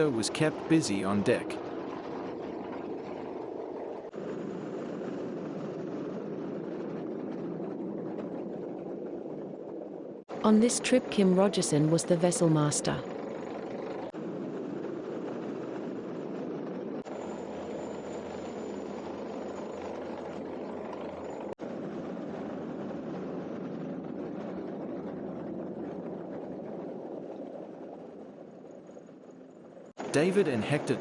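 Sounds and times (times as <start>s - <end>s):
helicopter rotor and engine drone: 0.0s - 31.0s.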